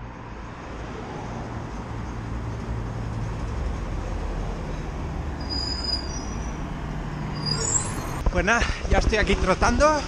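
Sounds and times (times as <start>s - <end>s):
passing traffic rumble: 0.0s - 8.4s.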